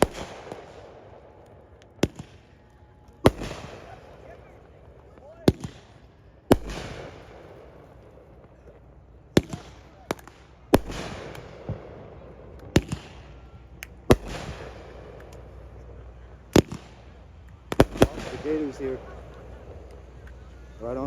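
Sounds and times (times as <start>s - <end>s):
fireworks exploding: 0.0s - 21.0s.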